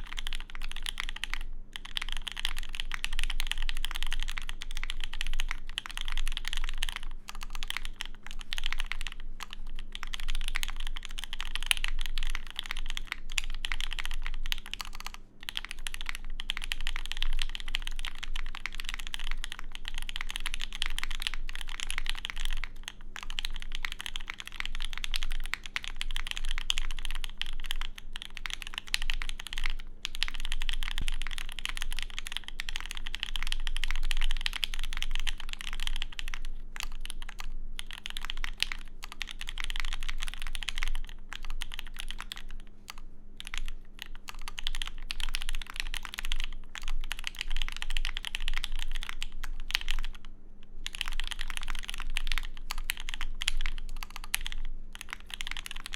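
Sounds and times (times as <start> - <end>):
mechanical keyboard typing: 0.0 - 50.2, 50.8 - 55.9.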